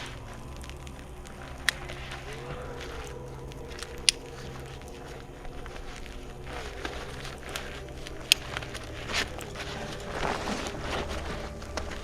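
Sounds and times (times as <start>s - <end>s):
rustling and crackling: 0.0s - 12.0s
steady low rumble: 0.0s - 12.0s.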